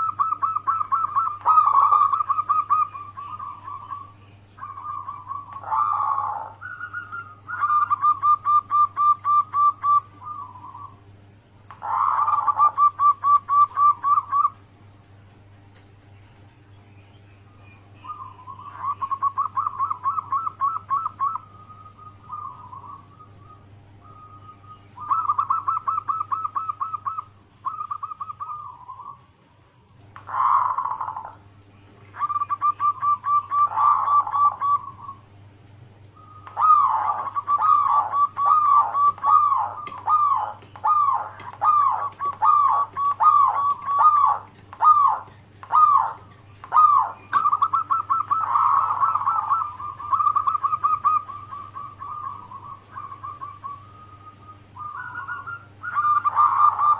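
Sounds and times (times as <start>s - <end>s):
dove cooing: 0.0s - 14.7s, 17.9s - 29.2s, 30.1s - 35.4s, 36.2s - 56.9s.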